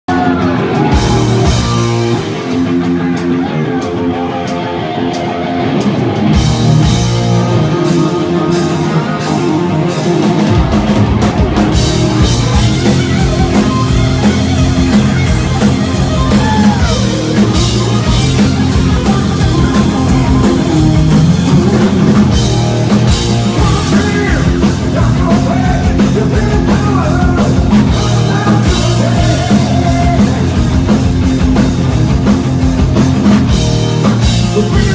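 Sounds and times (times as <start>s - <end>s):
bass guitar: 0.0s - 34.9s
drums and cymbals: 0.1s - 34.9s
electric guitar: 0.1s - 34.9s.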